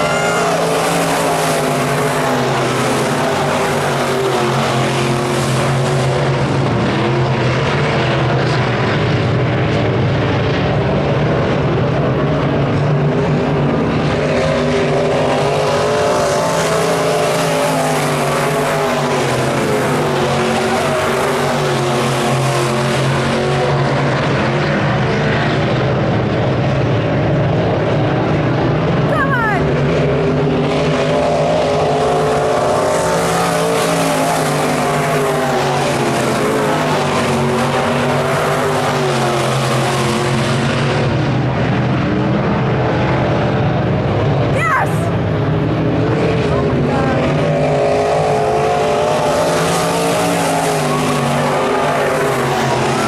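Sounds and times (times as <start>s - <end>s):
race car engines: 0.0s - 53.0s.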